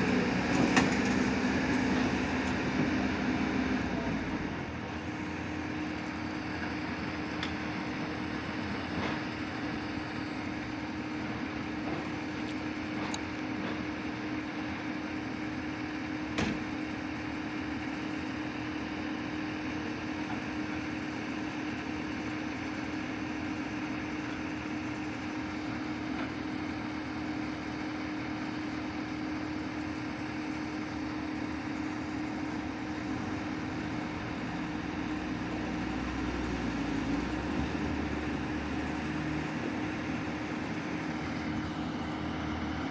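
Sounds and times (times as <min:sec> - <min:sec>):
excavator diesel engine idling: 0:00.0 - 0:42.9.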